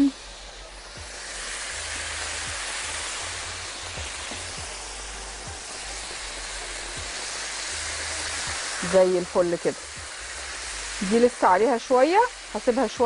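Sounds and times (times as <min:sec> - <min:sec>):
meat frying in hot oil: 0:00.0 - 0:13.0.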